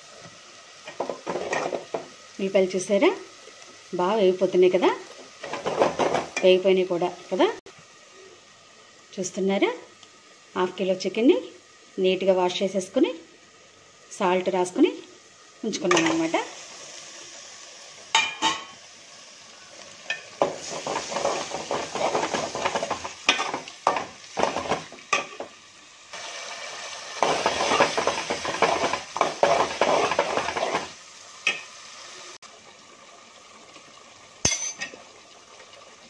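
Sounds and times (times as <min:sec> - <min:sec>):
oil sizzling: 0:00.0 - 0:36.0.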